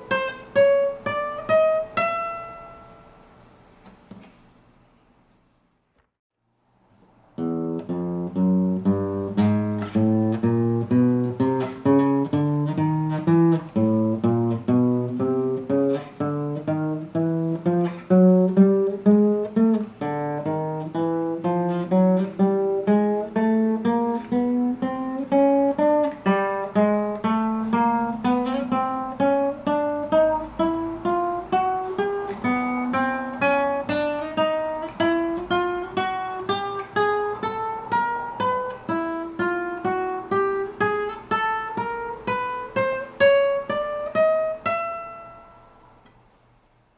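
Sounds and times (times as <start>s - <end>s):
acoustic guitar single notes climbing: 7.4s - 46.2s.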